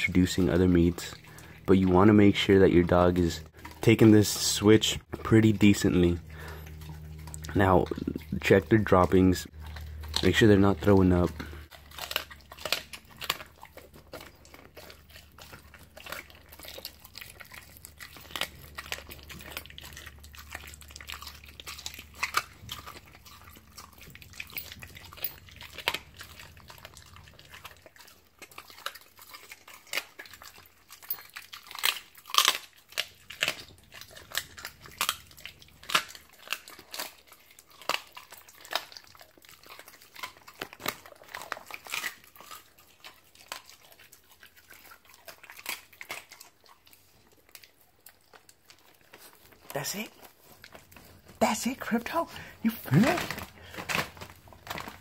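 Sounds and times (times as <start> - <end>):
dog chewing and crunching bone: 0.0 - 55.0.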